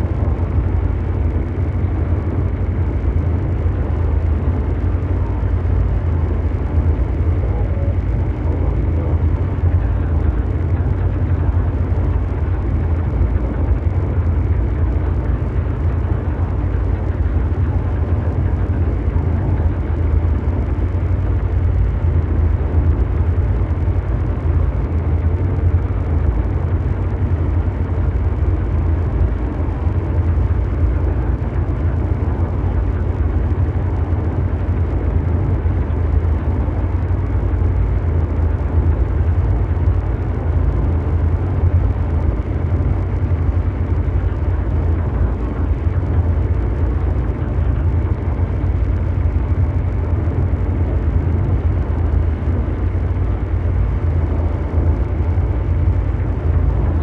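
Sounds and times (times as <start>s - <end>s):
deep engine-like rumble: 0.0s - 57.0s
noisy hiss: 0.0s - 57.0s.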